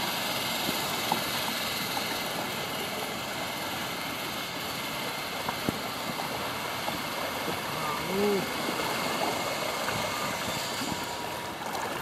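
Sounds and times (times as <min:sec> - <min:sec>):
paddle drips and ticks: 0:00.0 - 0:12.0
water hissing around kayaks: 0:00.0 - 0:12.0.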